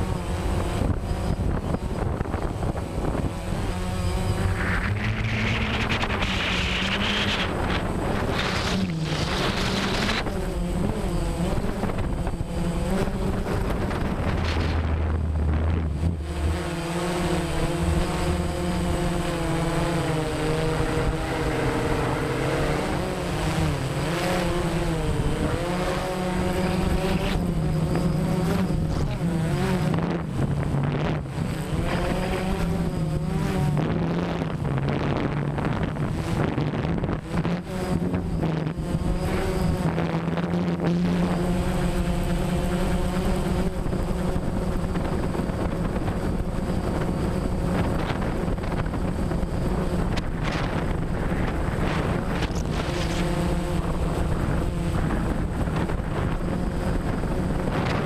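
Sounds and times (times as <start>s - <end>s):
drone propellers whining: 0.0s - 58.0s
wind noise: 0.0s - 58.0s.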